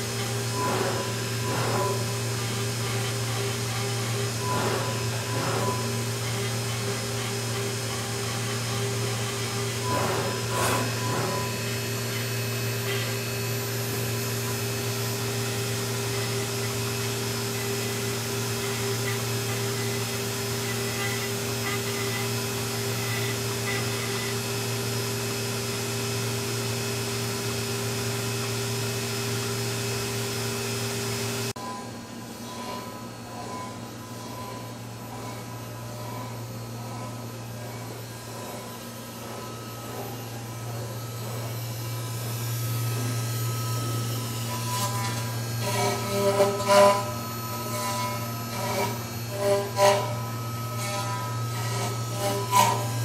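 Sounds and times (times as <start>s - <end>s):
milling machine whirring: 0.0s - 53.0s.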